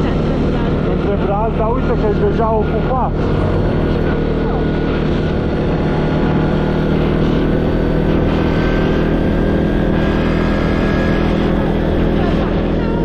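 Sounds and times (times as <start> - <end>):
constant noisy rush: 0.0 - 13.0
quad bike engine running: 0.0 - 13.0.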